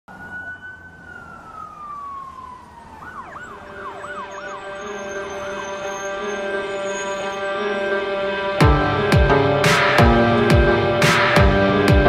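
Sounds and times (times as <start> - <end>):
emergency vehicle siren: 0.1 - 12.0.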